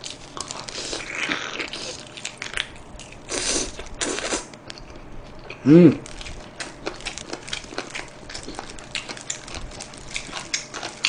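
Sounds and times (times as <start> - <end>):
chewing fried chicken: 0.0 - 11.0.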